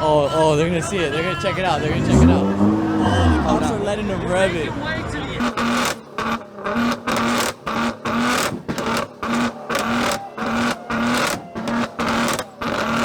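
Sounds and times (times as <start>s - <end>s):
car engine revving in blips: 1.4s - 13.0s.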